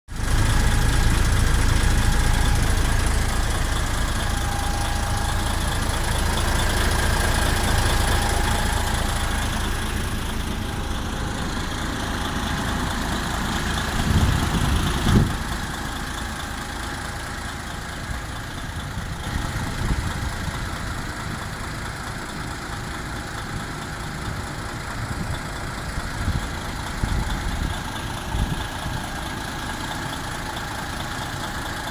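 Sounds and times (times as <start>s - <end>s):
diesel truck engine running: 0.1s - 31.9s.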